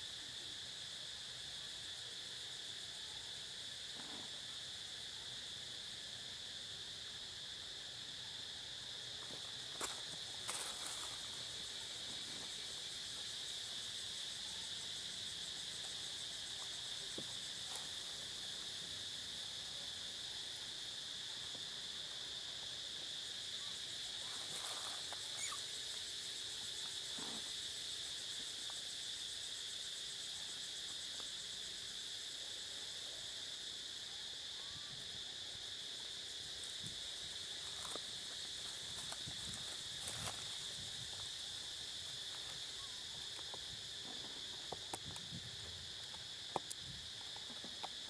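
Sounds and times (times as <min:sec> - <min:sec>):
insect chorus drone: 0:00.0 - 0:48.0.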